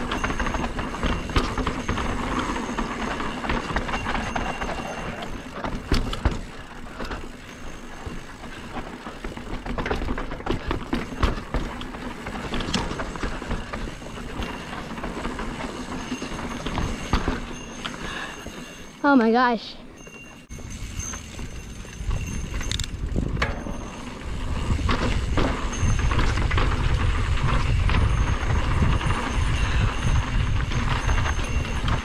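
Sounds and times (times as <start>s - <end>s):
bike tyres rumbling on dirt: 0.0s - 19.0s, 20.5s - 32.0s
bike frame and chain rattling: 0.0s - 32.0s.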